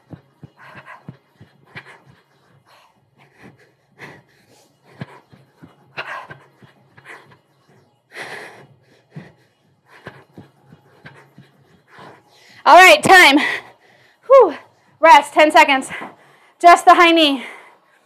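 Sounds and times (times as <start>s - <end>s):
woman panting: 0.0s - 18.0s.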